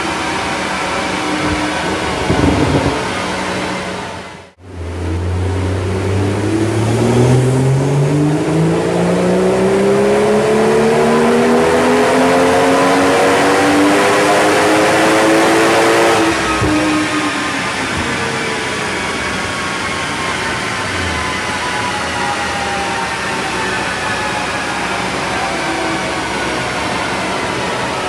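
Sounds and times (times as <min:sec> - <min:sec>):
car engine revving on a dyno: 0:00.0 - 0:28.0.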